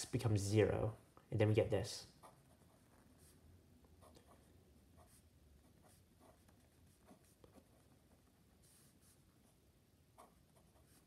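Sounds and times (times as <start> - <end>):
pen scratching on paper: 2.1 - 11.0.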